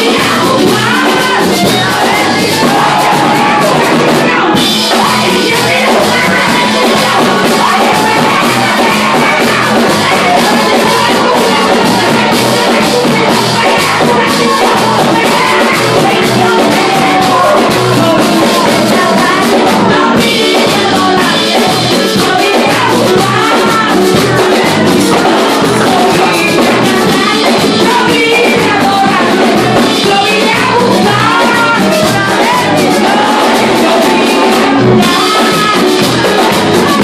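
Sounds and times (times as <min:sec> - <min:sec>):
hand drums and percussion: 0:00.0 - 0:37.0
woman singing into a microphone: 0:00.0 - 0:37.0.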